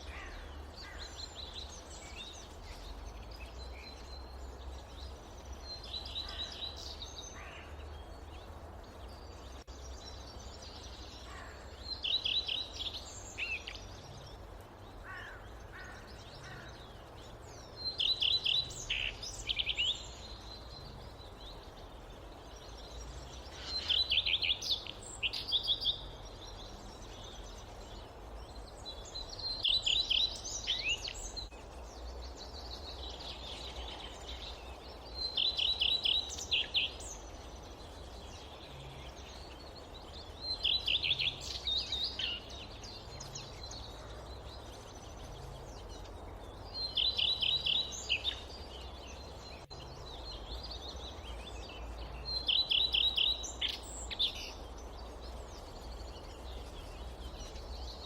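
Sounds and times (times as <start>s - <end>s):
low forest ambience: 0.0s - 58.0s.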